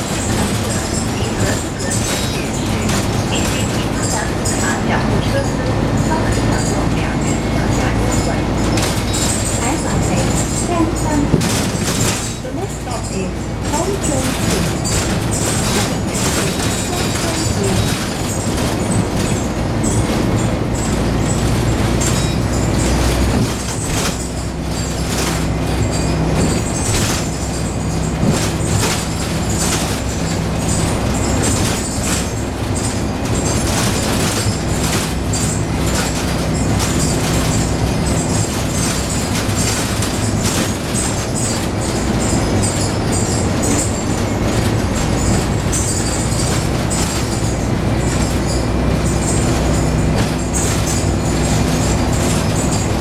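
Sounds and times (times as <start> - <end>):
bus engine low drone: 0.0 - 53.0.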